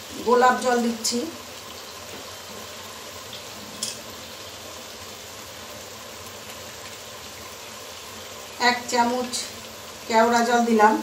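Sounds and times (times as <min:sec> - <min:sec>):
sauce simmering with bubbling hiss: 0:00.0 - 0:11.0.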